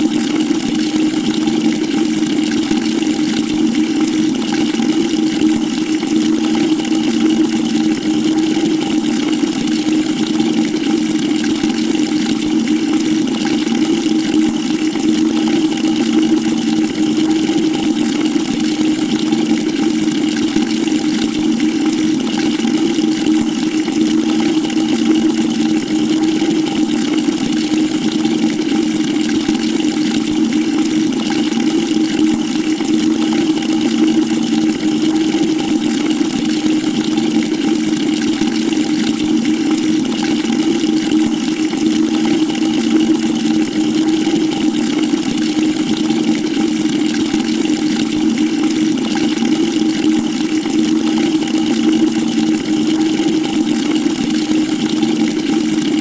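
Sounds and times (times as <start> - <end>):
water pouring into a bucket: 0.0 - 56.0.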